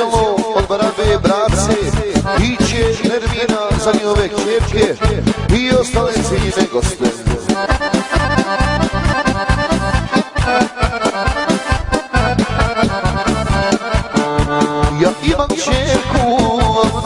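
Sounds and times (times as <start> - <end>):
accordion folk melody: 0.0 - 17.0
steady beat and bass: 0.0 - 17.0.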